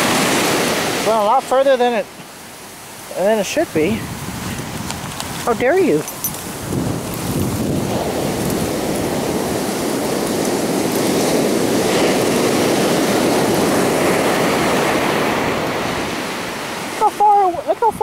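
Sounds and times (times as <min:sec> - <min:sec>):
ocean wave washing up beach: 0:00.0 - 0:18.0.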